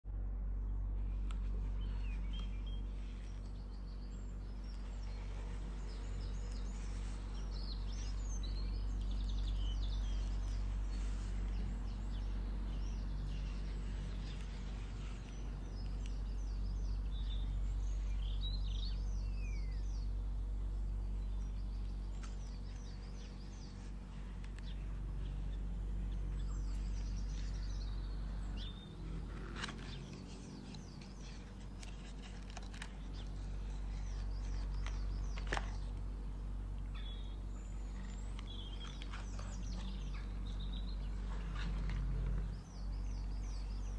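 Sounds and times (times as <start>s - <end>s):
steady low hum: 0.0s - 43.9s
birds chirping: 0.3s - 43.9s.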